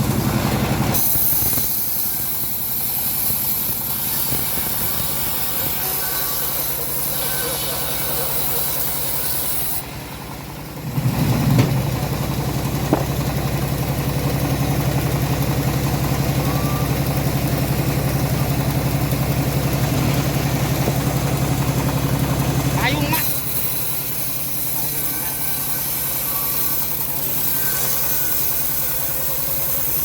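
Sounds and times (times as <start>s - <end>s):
saw blade cutting wood: 0.0s - 9.9s, 12.8s - 30.0s
bandsaw engine running: 0.0s - 30.0s.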